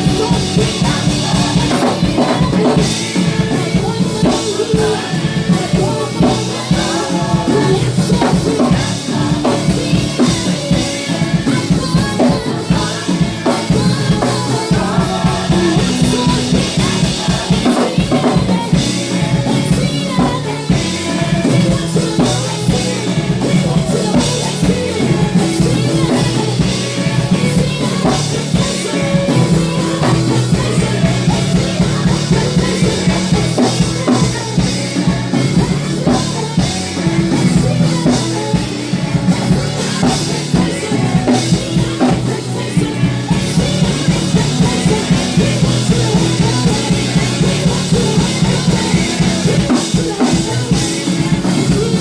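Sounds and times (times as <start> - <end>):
busy drum kit with rimshots: 0.0 - 52.0
church band playing gospel music: 0.0 - 52.0.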